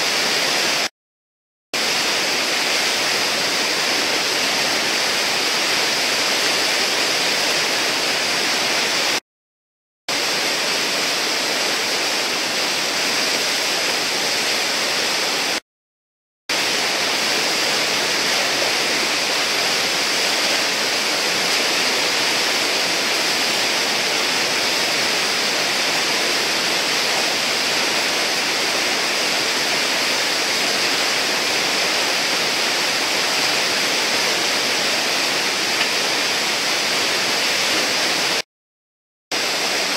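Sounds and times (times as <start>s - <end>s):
whitewater roaring: 0.0s - 0.9s, 1.8s - 9.2s, 10.1s - 15.6s, 16.5s - 38.4s.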